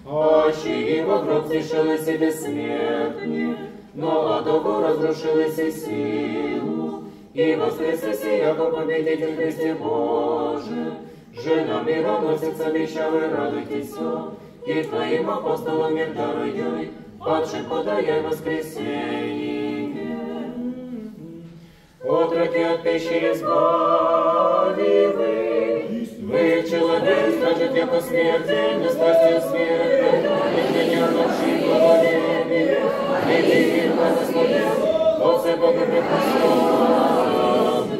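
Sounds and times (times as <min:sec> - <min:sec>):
choir singing a cappella chant: 0:00.0 - 0:37.9.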